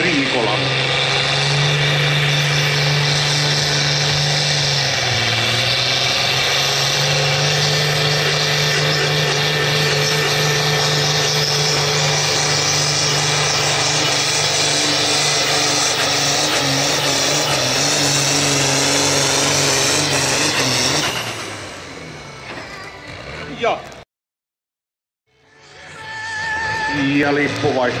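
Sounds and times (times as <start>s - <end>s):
diesel tractor engine under heavy load: 0.0s - 24.0s, 25.3s - 28.0s.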